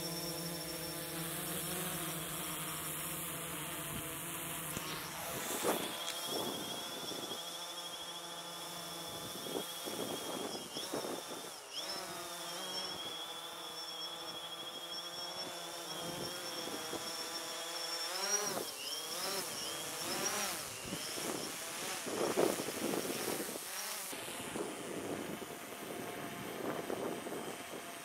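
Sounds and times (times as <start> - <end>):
drone buzzing whine: 0.0 - 28.0.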